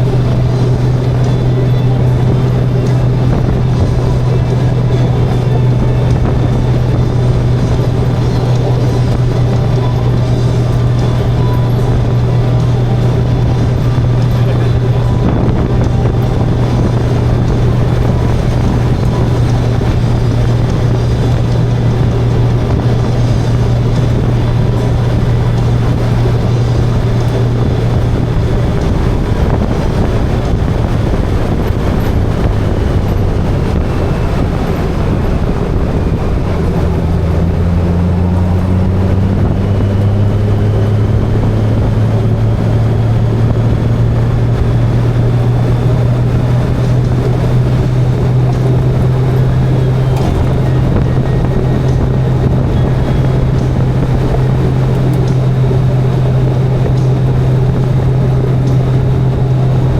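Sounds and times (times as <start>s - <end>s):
lower engine note rising: 0.0s - 59.9s
motorcycle engine drone: 0.0s - 59.9s
wind rush: 0.0s - 59.9s.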